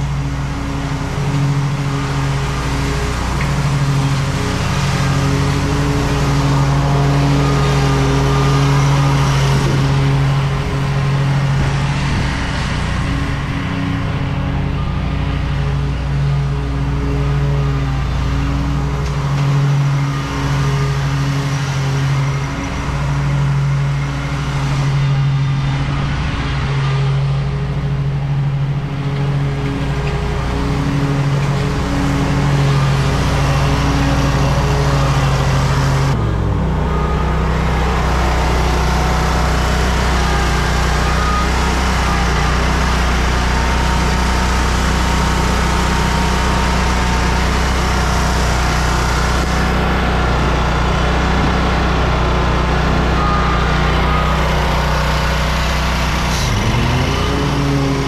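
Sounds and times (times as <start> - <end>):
lawn mower engine mowing: 0.0 - 58.0.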